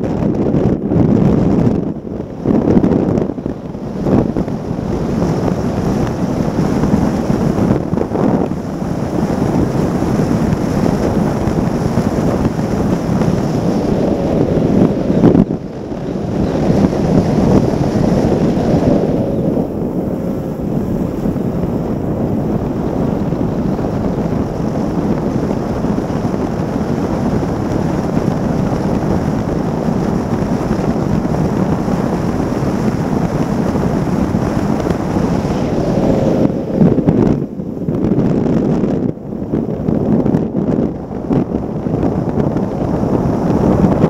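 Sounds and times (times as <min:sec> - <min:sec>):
outboard engine: 0:00.0 - 0:44.0
wind buffeting microphone: 0:00.0 - 0:44.0.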